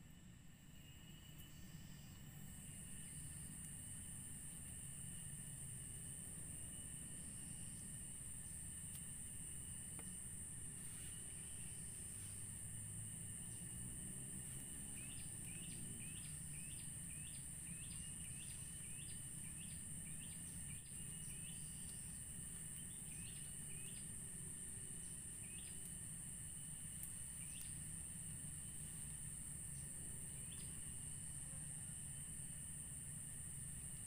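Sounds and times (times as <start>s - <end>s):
high insect drone: 0.0s - 34.0s.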